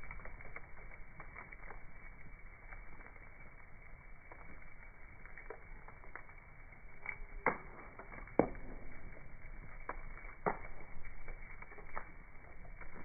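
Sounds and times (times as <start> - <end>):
slowed fire crackling: 0.0 - 13.0.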